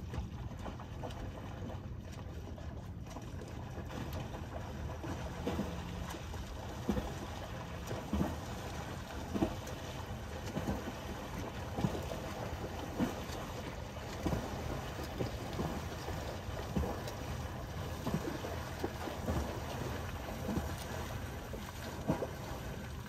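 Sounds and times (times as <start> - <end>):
sea water sloshing and splashing: 0.0 - 23.0.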